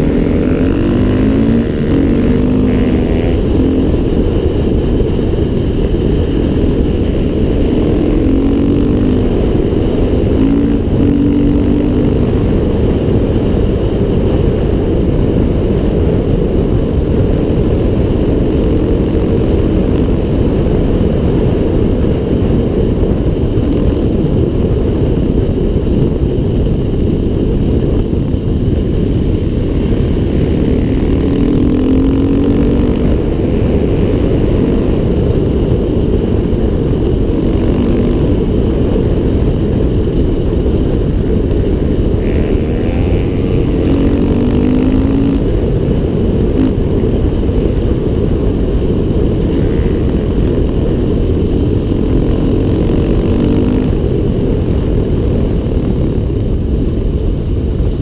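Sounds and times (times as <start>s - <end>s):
dirt bike engine running: 0.0s - 58.0s
wind rumble on microphone: 0.0s - 58.0s.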